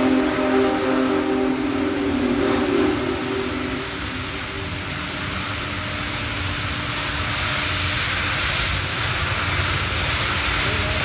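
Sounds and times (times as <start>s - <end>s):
locomotive low rumble: 0.0s - 11.0s
steam hissing: 0.0s - 11.0s.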